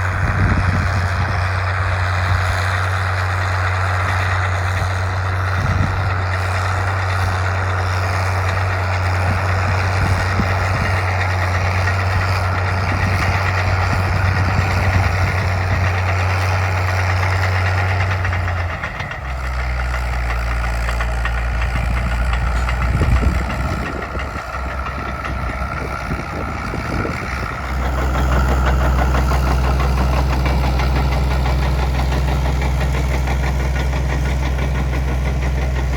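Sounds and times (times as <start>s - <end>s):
crawler tractor engine running: 0.0s - 35.9s.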